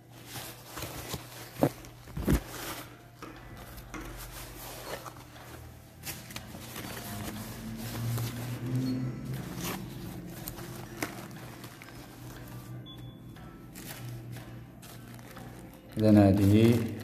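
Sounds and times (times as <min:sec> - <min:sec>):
plastic packaging crinkling: 0:00.0 - 0:03.0, 0:04.1 - 0:12.8, 0:13.7 - 0:17.0.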